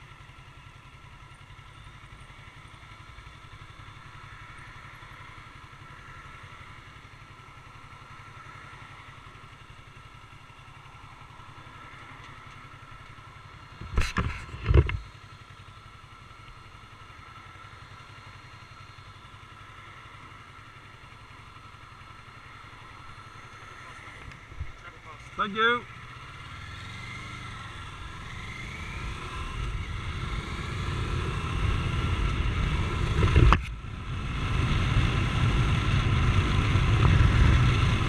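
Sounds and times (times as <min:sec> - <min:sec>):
motorcycle engine idling: 0:00.0 - 0:38.0.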